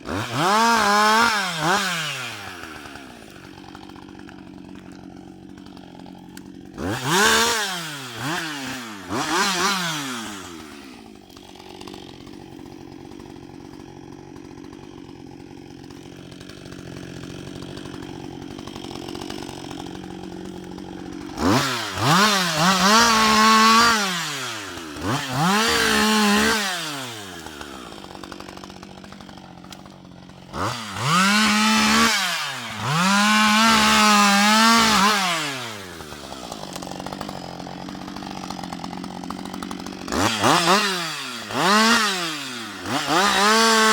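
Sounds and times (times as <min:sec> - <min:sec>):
chainsaw idling: 0:00.0 - 0:43.9
chainsaw revving: 0:00.0 - 0:43.9.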